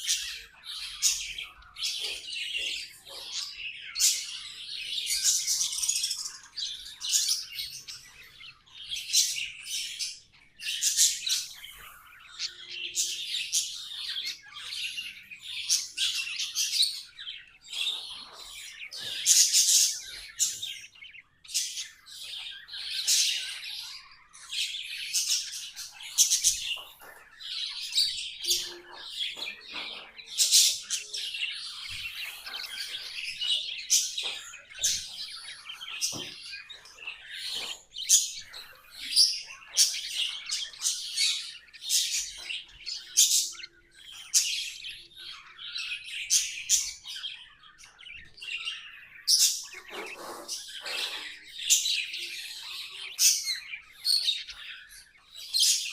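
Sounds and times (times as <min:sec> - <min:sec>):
budgerigars chirping and warbling: 0:00.0 - 0:55.9.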